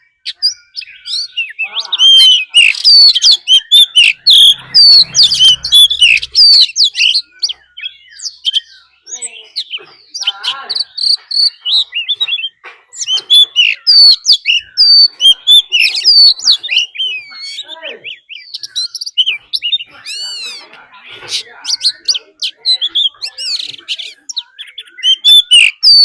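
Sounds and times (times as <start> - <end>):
bird singing whistles and chirps: 0.0 - 26.0.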